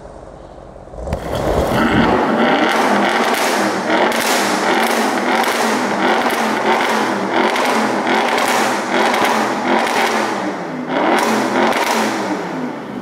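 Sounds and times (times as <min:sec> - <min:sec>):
car engine revving: 0:00.9 - 0:13.0.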